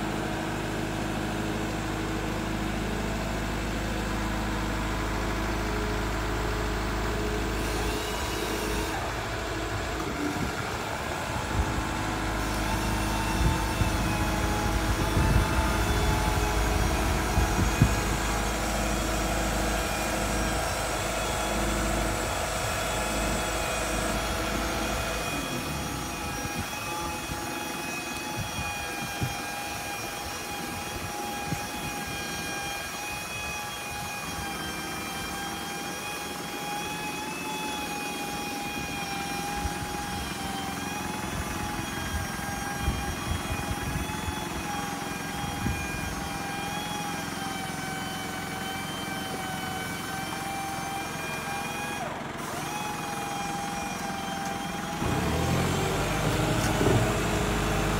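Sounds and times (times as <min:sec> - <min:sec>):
diesel engine idling: 0:00.0 - 0:29.6, 0:37.8 - 0:57.9
hydraulic whine: 0:00.0 - 0:57.9.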